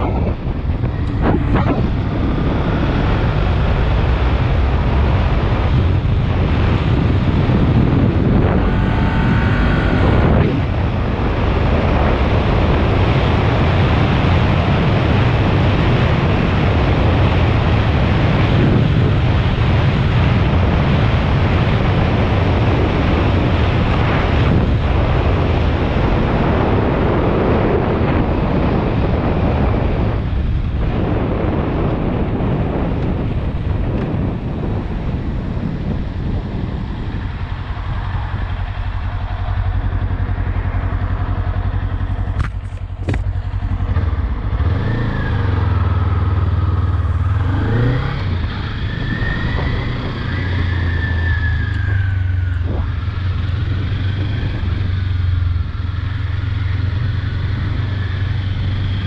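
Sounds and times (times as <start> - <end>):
motorcycle engine running: 0.0 - 59.0
wind buffeting helmet camera: 0.0 - 59.0.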